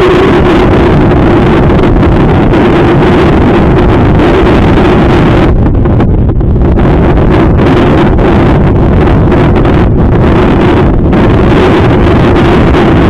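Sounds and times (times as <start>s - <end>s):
steady hum: 0.0s - 13.0s
wind buffeting microphone: 0.0s - 13.0s.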